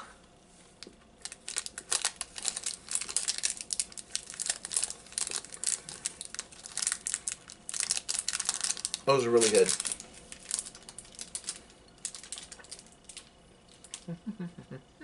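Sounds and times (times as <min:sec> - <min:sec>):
plastic wrapper crinkling: 0:01.2 - 0:14.1.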